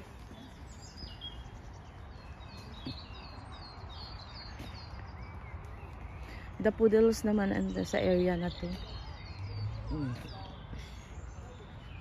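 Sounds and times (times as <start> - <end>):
small songbirds chirping: 0.0 - 12.0.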